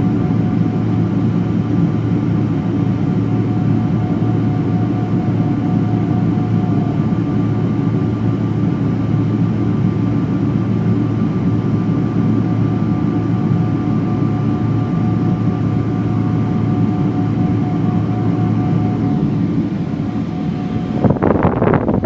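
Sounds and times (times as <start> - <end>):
jet engine drone: 0.0 - 22.0.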